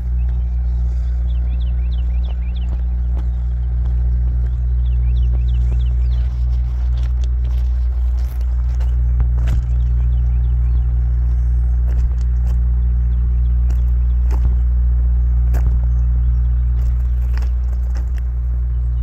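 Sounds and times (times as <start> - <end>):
footsteps crunching on gravel: 0.0 - 19.0
loud low rumble: 0.0 - 19.0.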